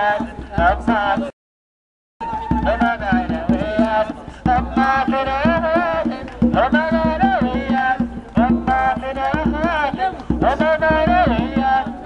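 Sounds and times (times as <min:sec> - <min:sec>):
hand drum beating: 0:02.2 - 0:12.0.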